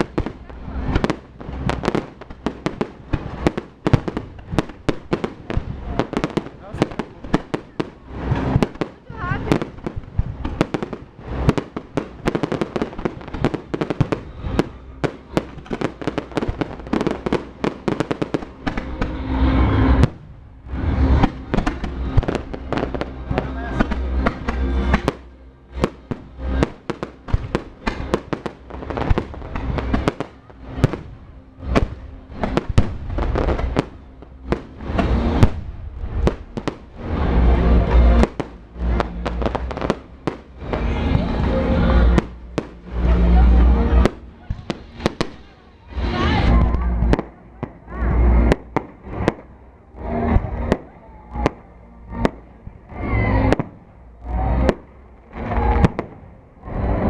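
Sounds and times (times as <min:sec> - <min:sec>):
fireworks cracking and booming: 0:00.0 - 0:57.0.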